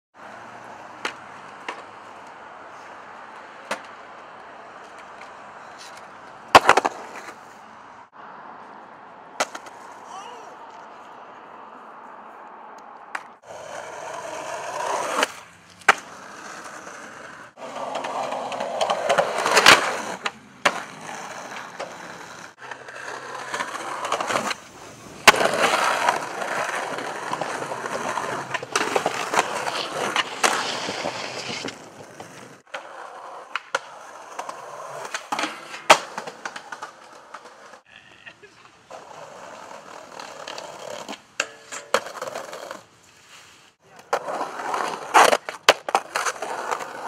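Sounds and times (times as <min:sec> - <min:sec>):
skateboard wheels rolling on concrete: 0:00.1 - 0:47.0
skateboard clacking: 0:00.9 - 0:02.4, 0:03.3 - 0:07.4, 0:09.4 - 0:10.0, 0:12.8 - 0:37.8, 0:38.6 - 0:42.8, 0:43.9 - 0:47.0.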